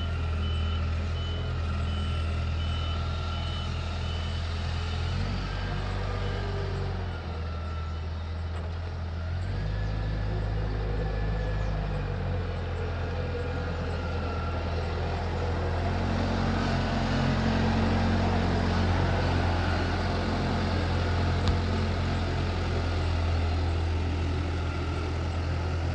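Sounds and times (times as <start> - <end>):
construction machine diesel engine: 0.0 - 25.9.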